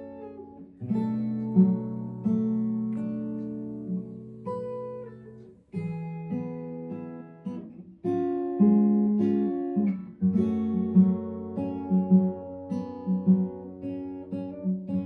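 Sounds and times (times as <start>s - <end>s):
acoustic guitar played slowly: 0.0s - 15.0s.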